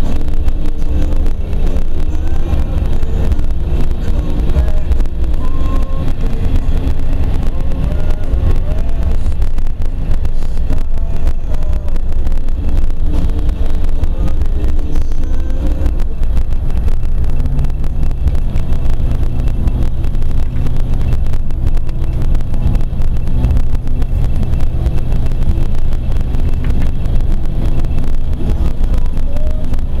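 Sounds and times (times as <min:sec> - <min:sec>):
low engine hum: 0:00.0 - 0:30.0
road and engine rumble: 0:00.0 - 0:30.0.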